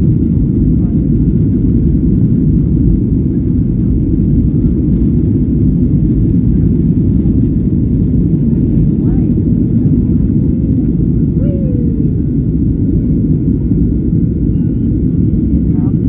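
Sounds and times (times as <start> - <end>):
jet engines at takeoff power: 0.0 - 16.0
runway rumble: 0.0 - 16.0.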